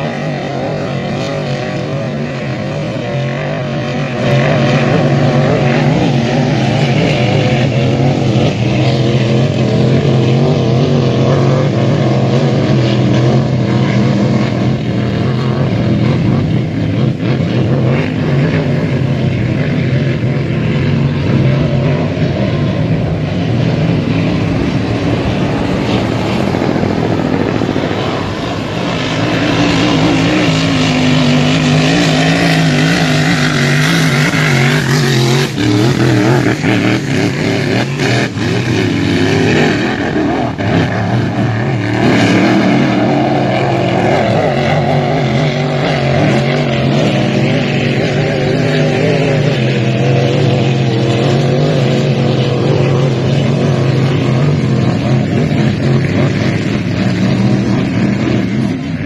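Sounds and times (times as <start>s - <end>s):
racing boat engine drone: 0.0s - 59.0s.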